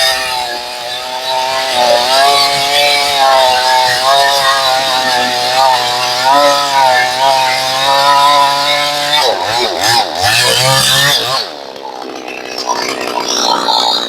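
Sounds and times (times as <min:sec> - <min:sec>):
chainsaw cutting log at high revs: 0:00.0 - 0:14.0.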